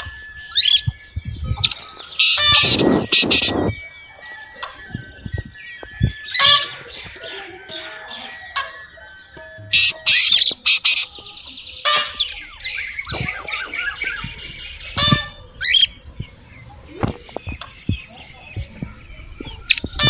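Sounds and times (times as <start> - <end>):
birds chirping: 0.0 - 20.0
birds squawking harshly: 0.0 - 20.0.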